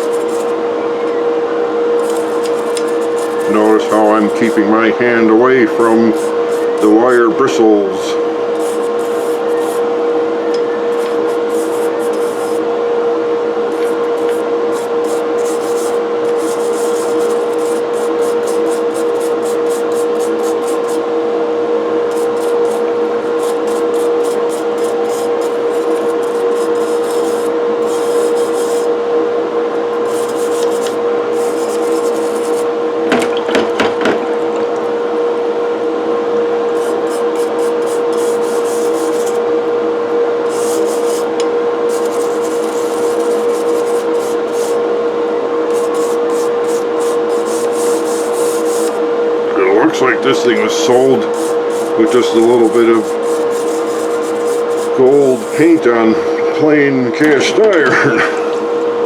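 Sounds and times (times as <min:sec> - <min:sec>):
powered wire brush scrubbing metal: 0:00.0 - 0:00.6, 0:02.0 - 0:12.8, 0:13.5 - 0:21.2, 0:21.9 - 0:29.0, 0:29.8 - 0:33.8, 0:36.5 - 0:39.6, 0:40.4 - 0:45.0, 0:45.6 - 0:49.1, 0:50.2 - 0:58.8.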